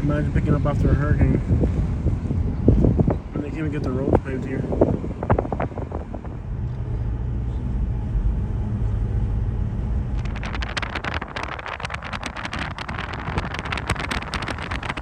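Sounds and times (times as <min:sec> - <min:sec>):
tyres rattling on rough road: 0:00.0 - 0:15.0
vehicle engine and road rumble: 0:00.0 - 0:15.0.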